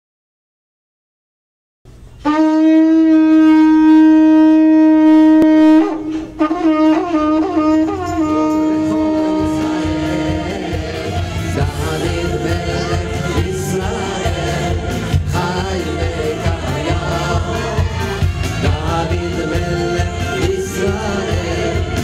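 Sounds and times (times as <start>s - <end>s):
band music: 2.1s - 22.0s
shofar blowing: 2.2s - 22.0s.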